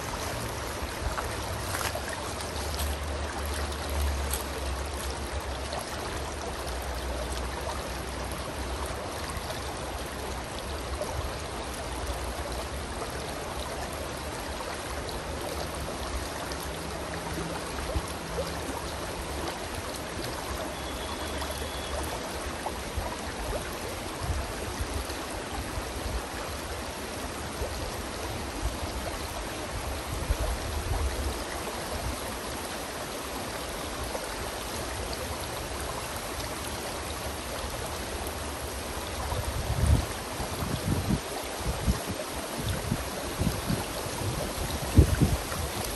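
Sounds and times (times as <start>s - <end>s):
stream running over rocks: 0.0s - 45.9s.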